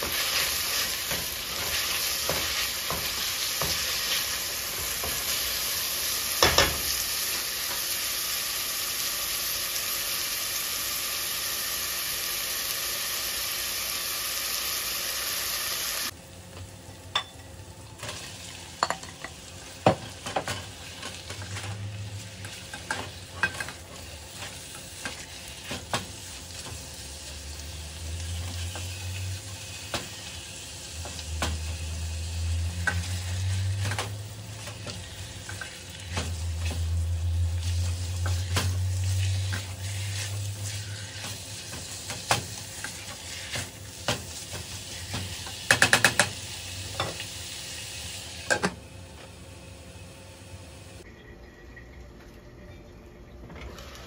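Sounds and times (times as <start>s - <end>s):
vegetables and meat sizzling: 0.0s - 51.1s.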